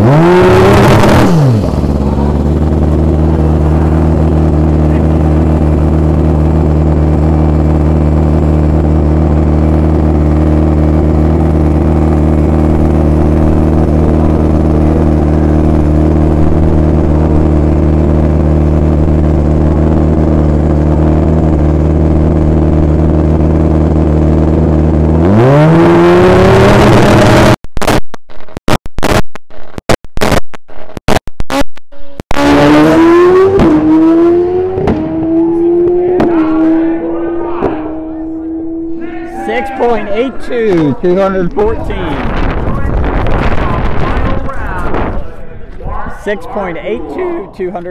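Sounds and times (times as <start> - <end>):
loud motorcycle engine revving: 0.0 - 27.6, 32.3 - 45.3.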